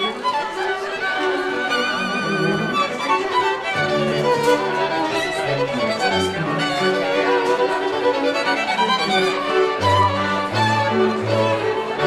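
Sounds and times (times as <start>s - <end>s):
violin with string accompaniment: 0.0s - 12.0s.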